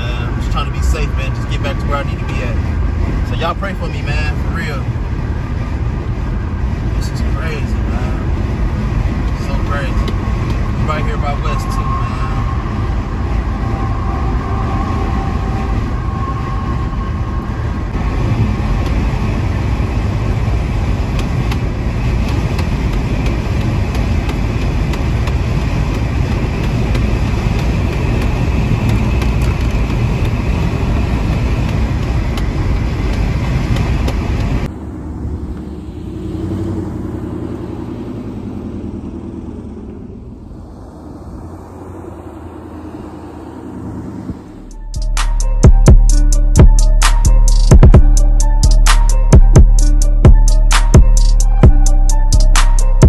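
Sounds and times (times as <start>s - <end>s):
wind and road noise in car: 0.0s - 53.0s.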